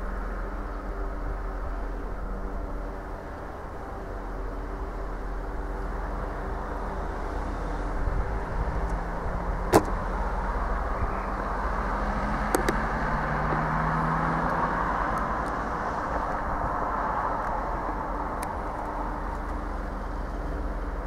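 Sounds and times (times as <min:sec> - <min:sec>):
diesel train rumbling: 0:00.0 - 0:21.0.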